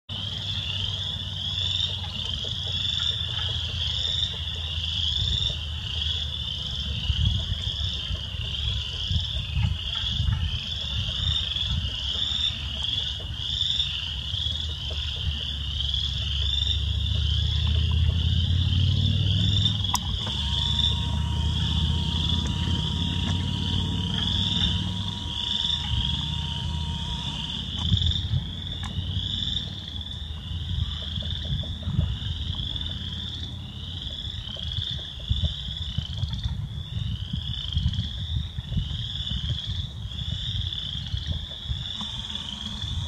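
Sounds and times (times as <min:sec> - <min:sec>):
frogs peeping in chorus: 0:00.1 - 0:43.0.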